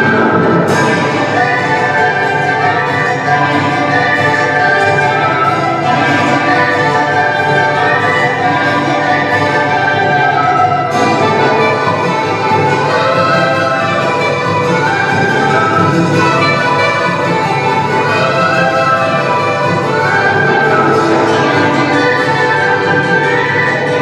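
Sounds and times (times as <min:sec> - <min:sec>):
festival band music with brass: 0:00.0 - 0:24.0.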